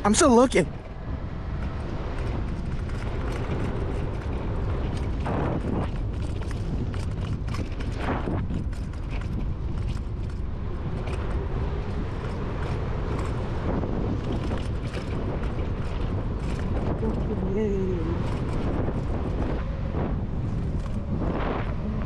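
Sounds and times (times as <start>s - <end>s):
bike rattles and clicks: 0.0s - 22.0s
tyres on dirt: 0.0s - 22.0s
wind on microphone: 0.0s - 22.0s.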